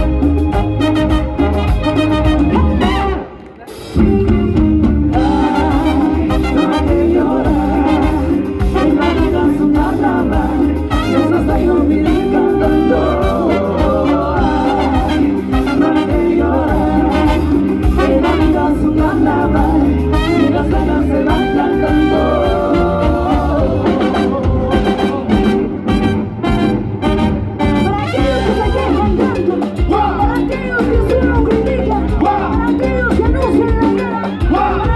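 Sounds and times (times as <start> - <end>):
live salsa band playing: 0.0 - 34.9.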